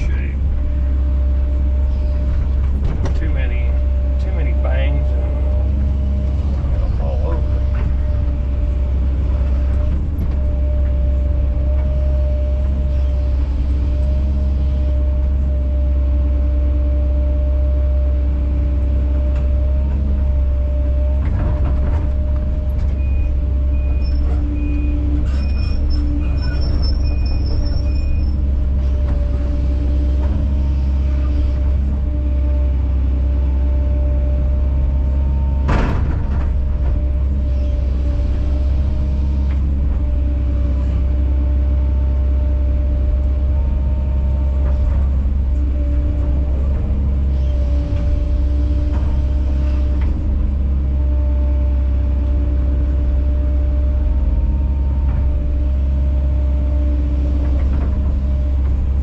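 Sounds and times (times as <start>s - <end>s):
hydraulic whine: 0.0s - 18.1s, 18.8s - 59.0s
excavator diesel engine running: 0.0s - 59.0s.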